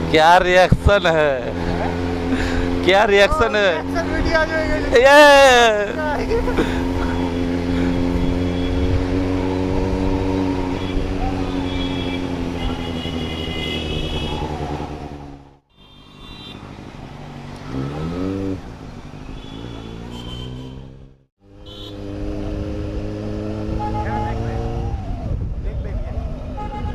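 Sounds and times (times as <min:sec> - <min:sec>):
motorcycle engine revving: 0:01.4 - 0:05.0, 0:05.6 - 0:15.6, 0:17.3 - 0:25.3.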